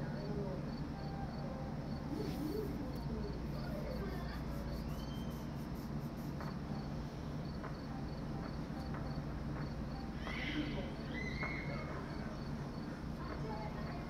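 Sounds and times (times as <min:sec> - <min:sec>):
crickets chirping: 0:00.0 - 0:14.0
low steady hum: 0:00.0 - 0:14.0.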